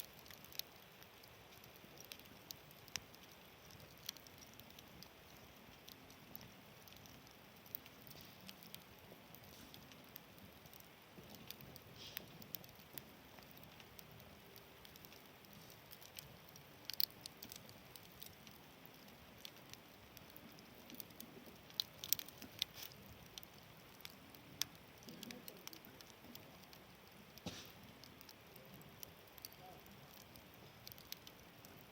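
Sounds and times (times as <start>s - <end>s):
campfire crackling: 0.0s - 31.9s.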